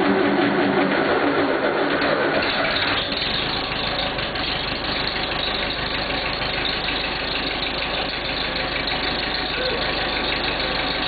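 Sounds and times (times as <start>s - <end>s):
diesel engine cranking and idling: 0.0s - 11.0s.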